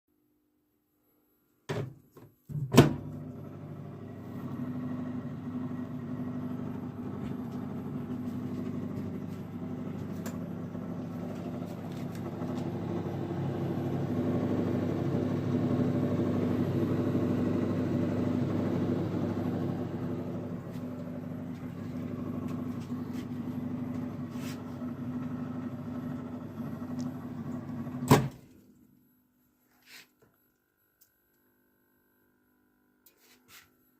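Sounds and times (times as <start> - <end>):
microwave oven humming: 2.5 - 29.5, 30.3 - 33.2.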